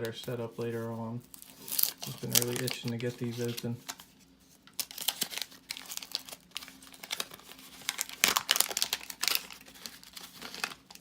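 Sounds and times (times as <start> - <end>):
wax paper wrapper crinkling: 0.0 - 11.0.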